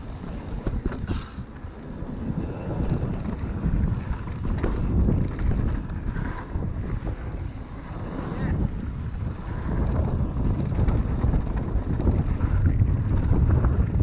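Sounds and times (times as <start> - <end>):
bike clicks and rattles: 0.0 - 14.0
bike tyres rolling over dirt: 0.0 - 14.0
wind buffeting microphone: 0.0 - 14.0.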